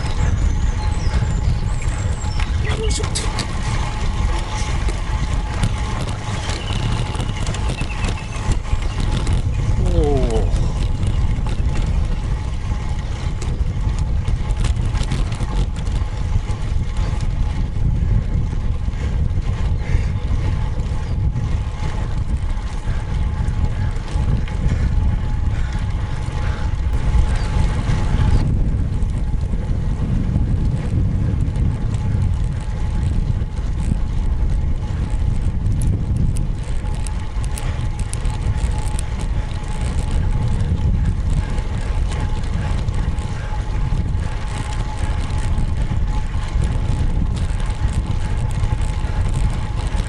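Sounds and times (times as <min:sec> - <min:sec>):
road and tyre noise: 0:00.0 - 0:50.0
wind buffeting microphone: 0:00.0 - 0:50.0.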